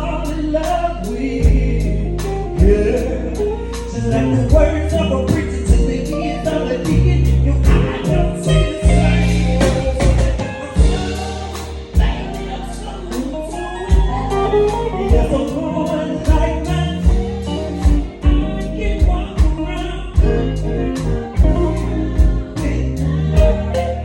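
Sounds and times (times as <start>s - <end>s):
gospel band music: 0.0s - 24.0s
person singing: 0.0s - 24.0s.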